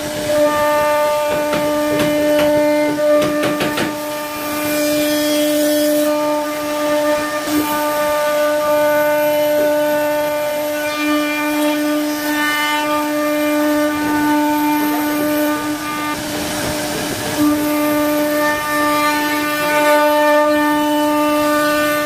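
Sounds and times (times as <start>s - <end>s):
router bit hiss: 0.0s - 22.0s
router spindle whining: 0.0s - 22.0s.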